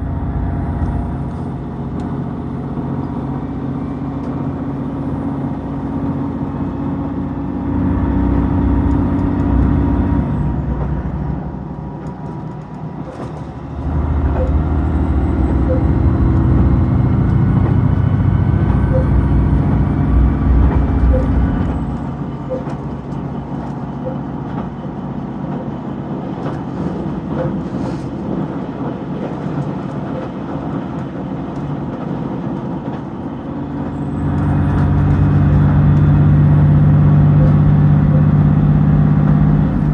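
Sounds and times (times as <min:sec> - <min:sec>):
diesel train engine running: 0:00.0 - 0:39.9.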